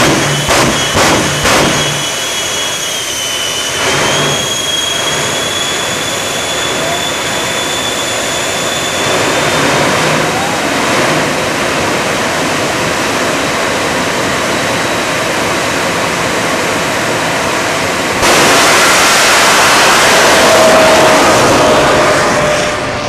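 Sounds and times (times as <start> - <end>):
jet engine roaring: 0.0 - 23.0
thin jet whine: 0.0 - 23.0.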